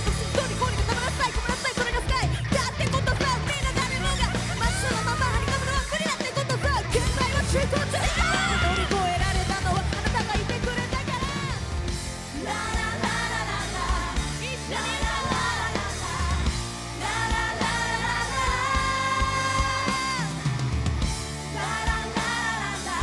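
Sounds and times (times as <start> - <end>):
rock band playing: 0.0 - 23.0
woman singing: 0.2 - 11.6, 12.4 - 20.4.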